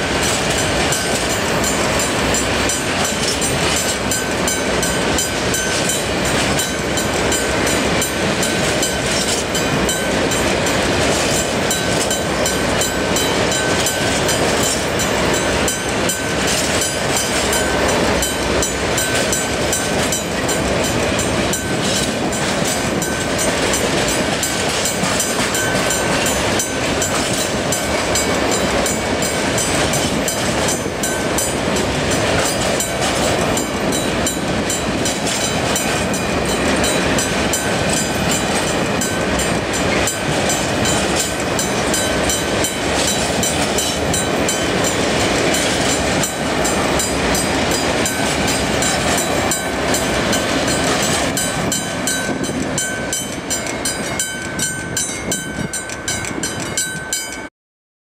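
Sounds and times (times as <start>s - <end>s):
freight train wheels clattering: 0.0s - 57.5s.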